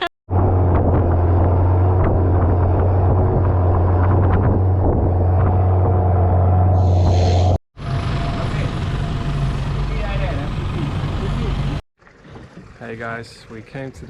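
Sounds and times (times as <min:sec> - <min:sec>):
boat engine droning: 0:00.0 - 0:13.7.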